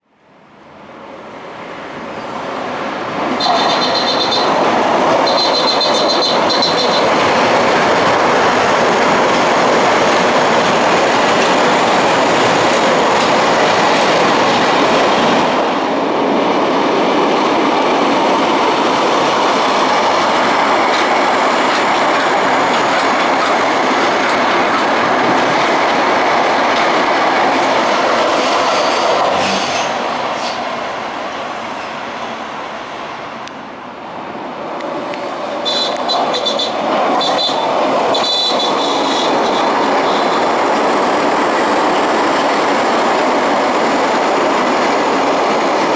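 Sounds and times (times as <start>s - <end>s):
train wheels and motors rumbling: 2.4s - 45.9s.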